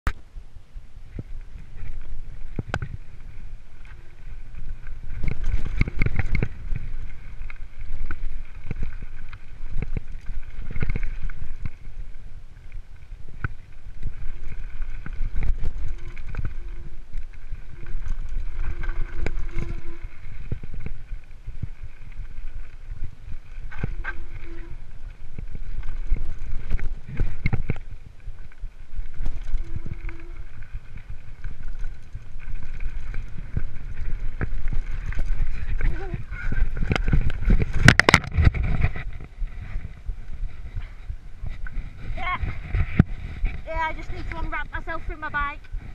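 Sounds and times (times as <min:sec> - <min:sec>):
wind rumble on microphone: 0:00.1 - 0:45.9
bike rattling over stones: 0:01.1 - 0:45.9.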